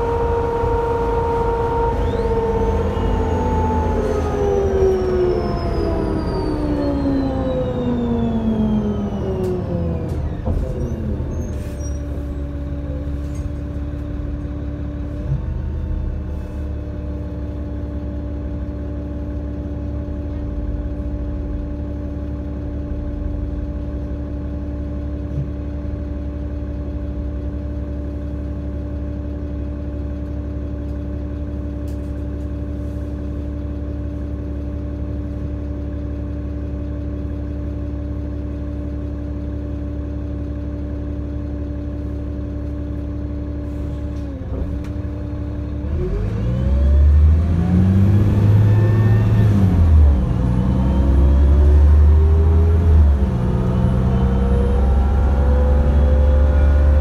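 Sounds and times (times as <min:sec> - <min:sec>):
bus engine idling: 0:00.0 - 0:46.4
bus engine whine slowing: 0:00.0 - 0:57.0.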